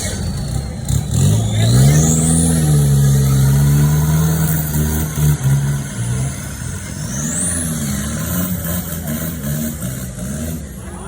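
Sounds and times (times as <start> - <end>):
race vehicle engine revving: 0.0 - 11.0.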